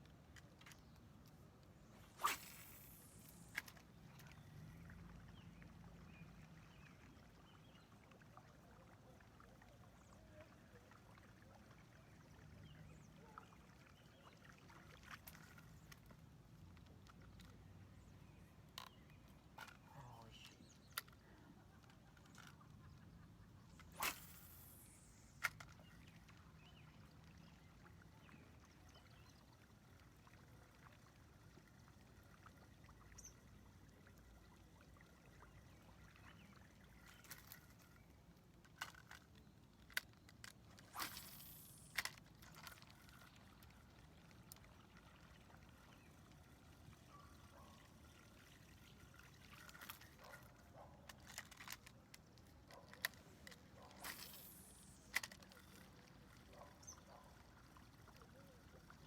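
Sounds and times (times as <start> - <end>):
water trickling and lapping: 0.0 - 59.0.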